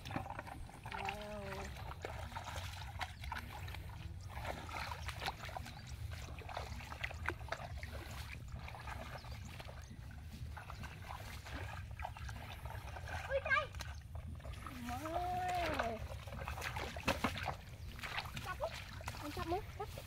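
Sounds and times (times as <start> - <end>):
bare feet splashing through mud: 0.0 - 20.0.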